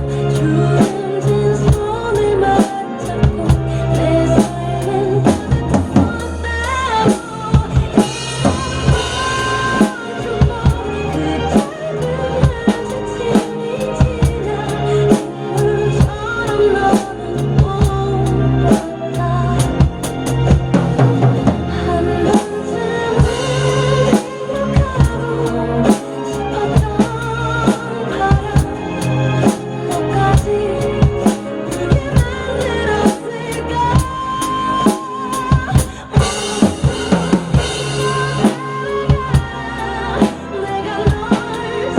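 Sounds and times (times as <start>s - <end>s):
drum kit playing: 0.0s - 41.9s
recorded pop ballad: 0.0s - 41.9s.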